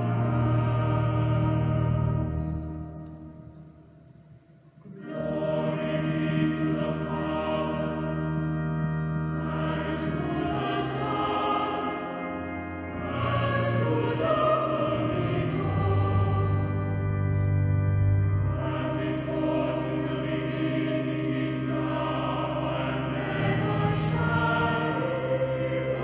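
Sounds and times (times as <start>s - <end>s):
voices singing a slow chant: 0.0s - 2.7s, 4.9s - 17.5s, 18.5s - 26.0s.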